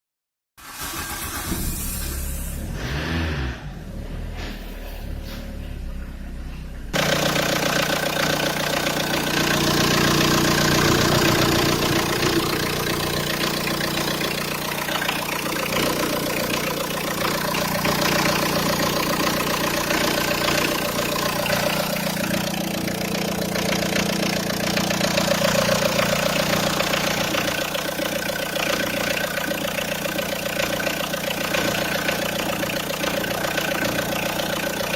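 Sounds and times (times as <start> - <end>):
diesel engine idling: 3.9 - 34.9.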